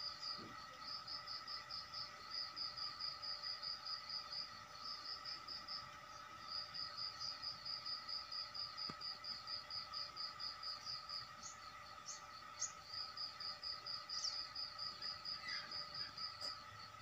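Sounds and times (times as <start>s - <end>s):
insects chirping in pulses: 0.0s - 17.0s.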